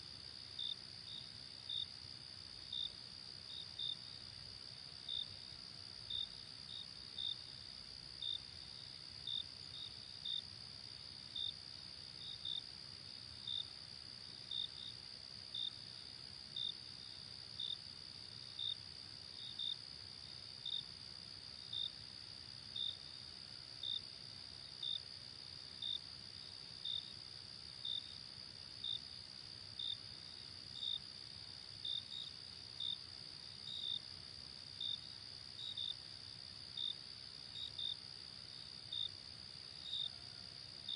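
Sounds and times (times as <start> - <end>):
cricket chirps: 0.0 - 40.9.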